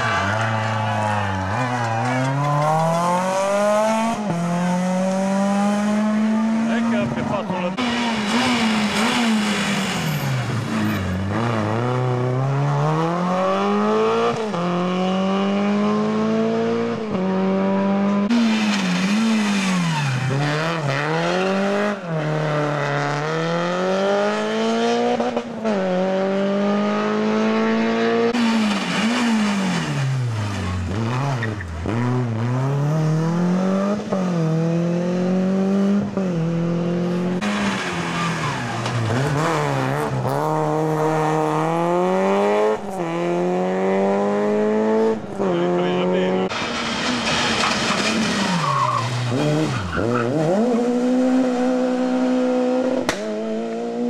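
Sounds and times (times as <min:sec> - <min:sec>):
rally car engines accelerating: 0:00.0 - 0:54.0.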